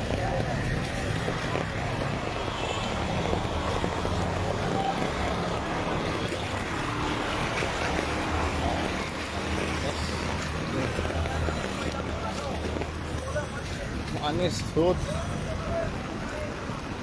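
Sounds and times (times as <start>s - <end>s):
floodwater rushing: 0.0s - 17.0s
wind on microphone: 0.0s - 17.0s.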